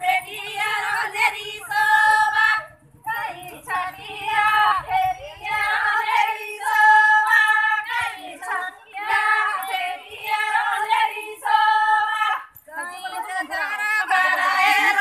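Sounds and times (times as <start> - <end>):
women singing a devotional song: 0.0 - 15.0.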